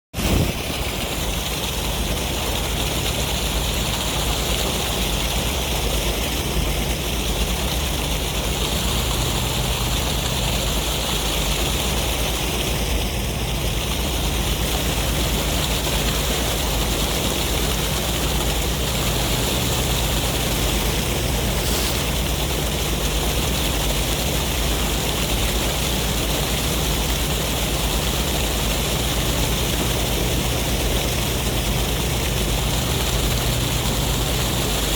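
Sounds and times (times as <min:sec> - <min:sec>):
sea surf roar: 0:00.2 - 0:34.9
wind: 0:00.2 - 0:34.9.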